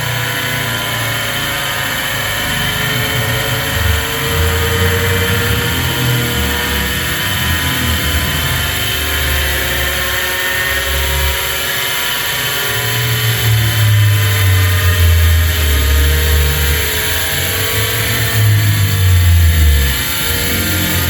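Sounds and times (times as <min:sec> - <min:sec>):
fan motor high whine: 0:00.0 - 0:21.0
low rumble: 0:02.2 - 0:21.0.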